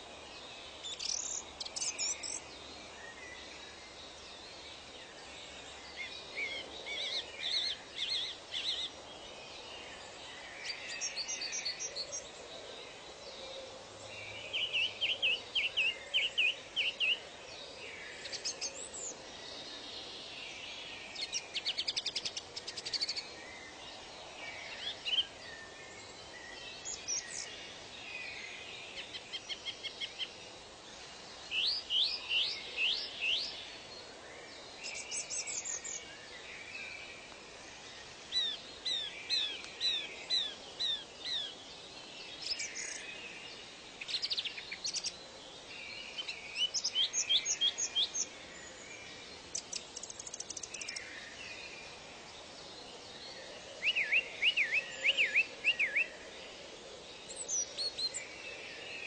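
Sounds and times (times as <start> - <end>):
birds singing and calling: 0.0 - 59.0
faint background hiss: 0.0 - 59.0.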